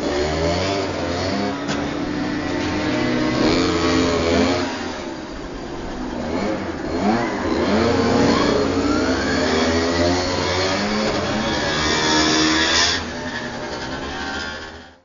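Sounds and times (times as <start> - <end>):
small engines revving: 0.0 - 15.0.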